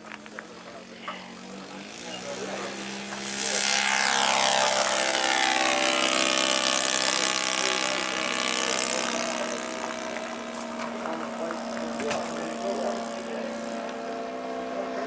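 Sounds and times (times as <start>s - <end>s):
model airplane engine passing: 0.0s - 15.0s.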